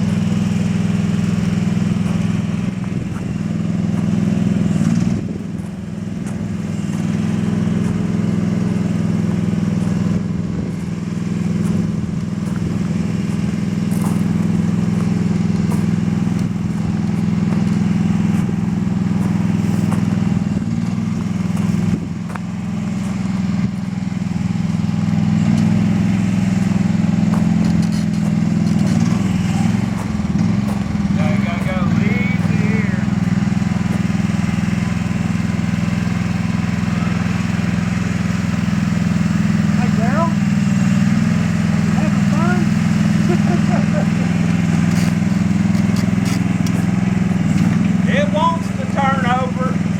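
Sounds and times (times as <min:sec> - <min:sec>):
excavator engine running: 0:00.0 - 0:49.9.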